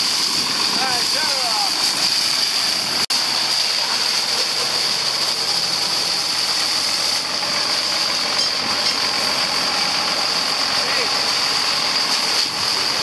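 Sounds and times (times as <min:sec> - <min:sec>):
engine idling: 0:00.0 - 0:13.0
pressure washer jet hissing: 0:00.0 - 0:13.0.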